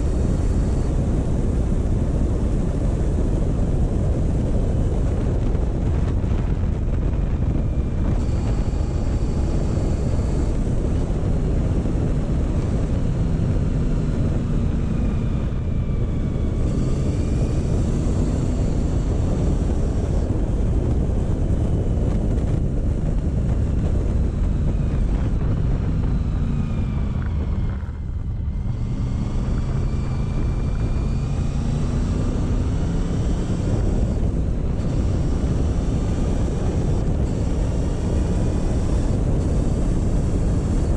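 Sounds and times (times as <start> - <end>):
motorcycle engine running: 0.0 - 40.9
wind on microphone: 0.0 - 40.9.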